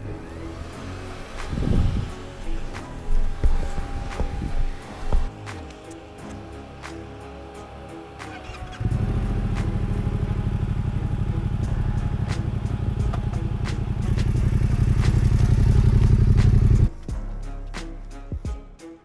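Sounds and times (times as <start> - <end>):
motorcycle engine running: 0.0 - 16.9
background music with beat: 0.0 - 19.0.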